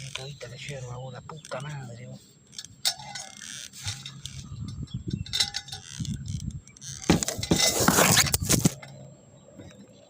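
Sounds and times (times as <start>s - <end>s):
rustling and scraping: 0.0s - 10.0s.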